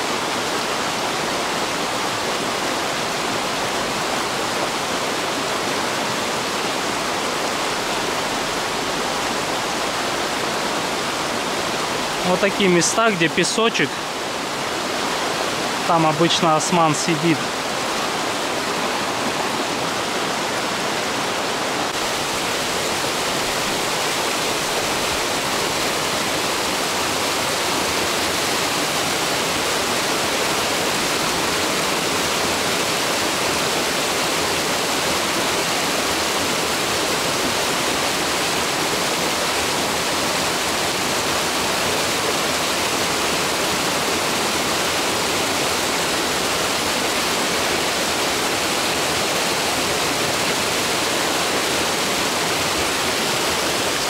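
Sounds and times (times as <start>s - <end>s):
mountain river rushing: 0.0s - 54.0s.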